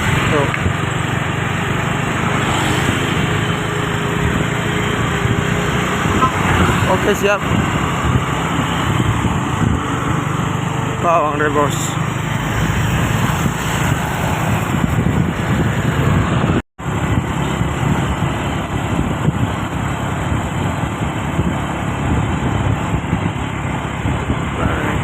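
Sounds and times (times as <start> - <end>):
road and traffic noise: 0.0 - 25.0.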